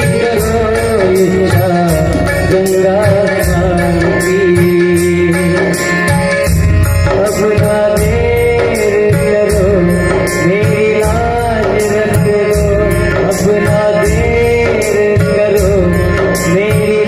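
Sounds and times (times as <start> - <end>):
devotional instrumental music: 0.0 - 17.0
heavy bass: 0.0 - 17.0
lead melody with bending pitch: 0.0 - 17.0.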